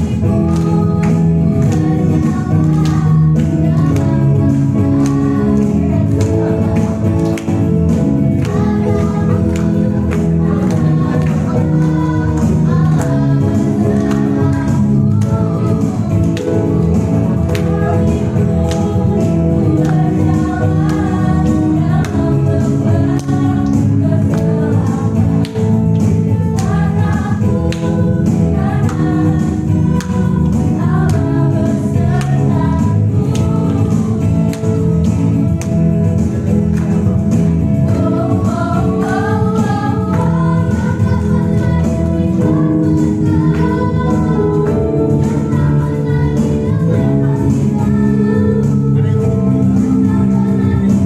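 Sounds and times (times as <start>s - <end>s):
choir singing: 0.0s - 35.1s, 37.8s - 51.0s
instrumental accompaniment: 0.0s - 51.0s.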